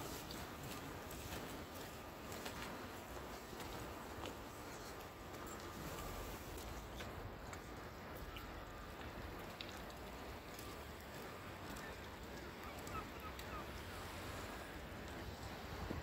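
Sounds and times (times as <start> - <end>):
open air and water hiss: 0.0 - 16.0.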